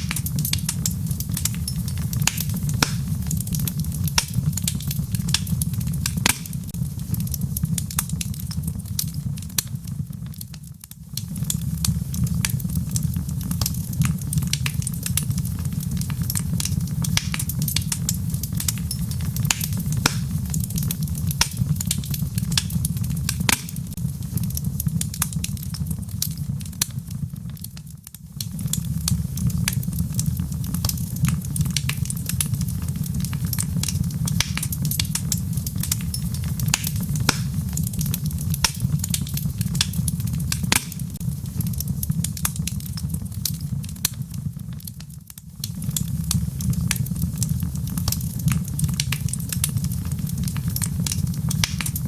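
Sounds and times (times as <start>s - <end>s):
wood fire burning: 0.0s - 52.0s.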